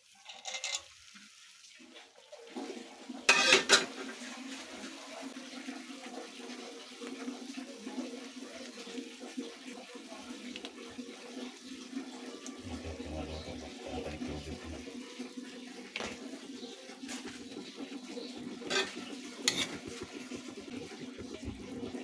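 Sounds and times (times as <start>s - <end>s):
water running from a tap: 0.0s - 22.0s.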